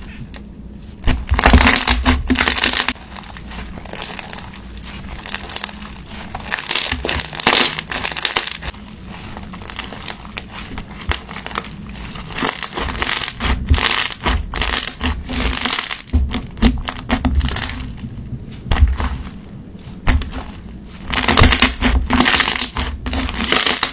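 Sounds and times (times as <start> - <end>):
slime crackling and popping: 0.4 - 23.9.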